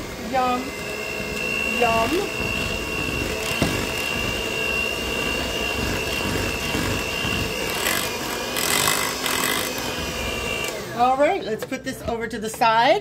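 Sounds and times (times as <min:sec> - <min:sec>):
electric hand mixer whining: 0:00.0 - 0:11.4.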